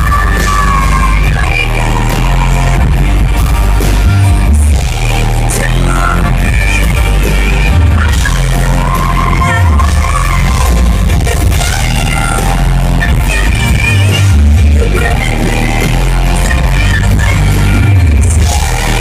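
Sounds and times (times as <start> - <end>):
band playing live pop: 0.0 - 19.0.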